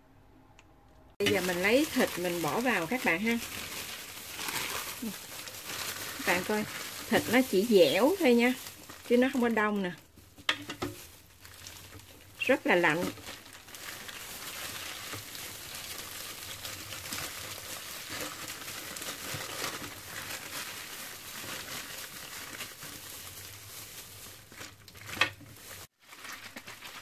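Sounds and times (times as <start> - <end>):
plastic bag and gloves crinkling: 1.2 - 27.0.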